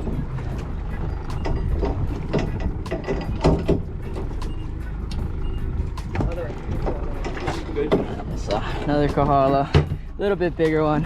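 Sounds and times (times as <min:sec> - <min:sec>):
knocks and clatter: 0:00.0 - 0:04.6, 0:05.2 - 0:08.5, 0:09.1 - 0:10.1
boat engine low rumble: 0:00.0 - 0:11.0.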